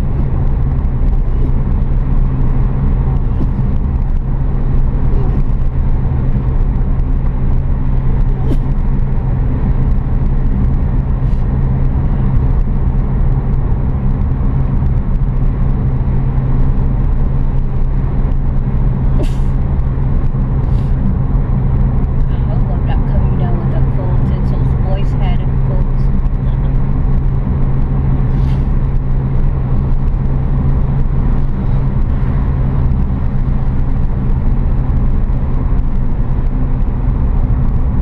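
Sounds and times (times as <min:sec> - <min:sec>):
car engine and road noise: 0:00.0 - 0:38.0.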